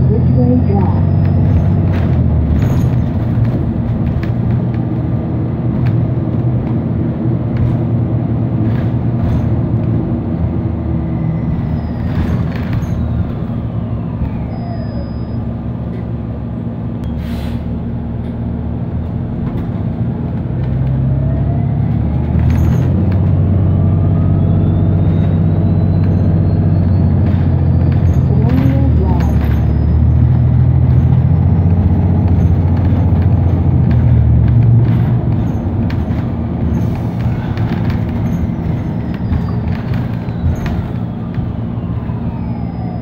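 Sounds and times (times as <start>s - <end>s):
bus engine drone: 0.0s - 43.0s.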